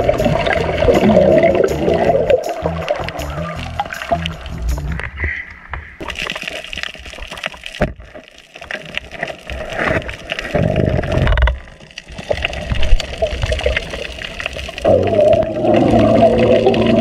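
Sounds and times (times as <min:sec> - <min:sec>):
sharp clicks and crackles: 0:00.0 - 0:17.0
underwater water rushing: 0:00.0 - 0:17.0.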